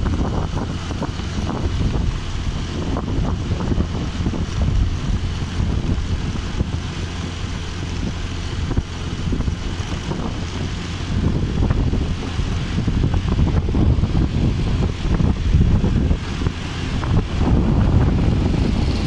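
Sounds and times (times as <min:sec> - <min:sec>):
motorcycle engine and tyre rumble: 0:00.0 - 0:19.0
wind rushing over microphone: 0:00.0 - 0:19.0.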